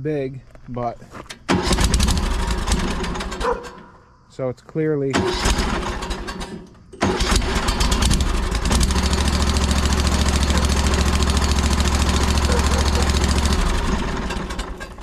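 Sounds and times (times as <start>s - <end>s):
tractor engine starting and running: 1.1s - 4.0s, 5.0s - 15.0s.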